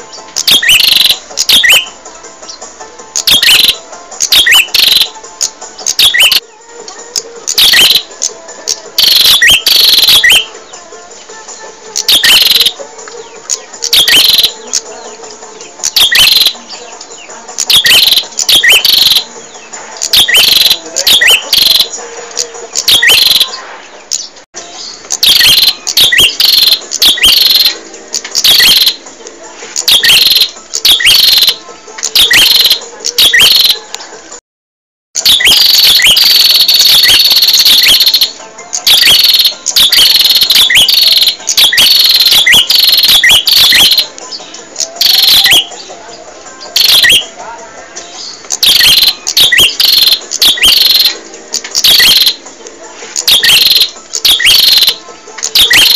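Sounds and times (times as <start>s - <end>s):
bird chirping and trilling: 0.0s - 6.5s, 7.4s - 10.7s, 12.0s - 29.0s, 29.8s - 33.8s, 35.2s - 46.0s, 46.6s - 47.4s, 48.0s - 52.4s, 53.2s - 55.9s.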